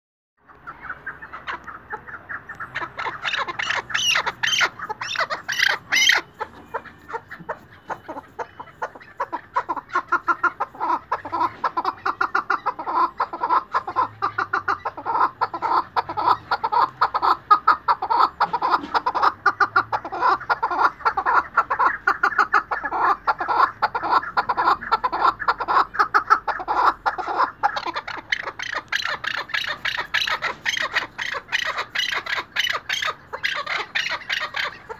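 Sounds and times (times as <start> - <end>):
partridge calling: 0.4 - 34.9.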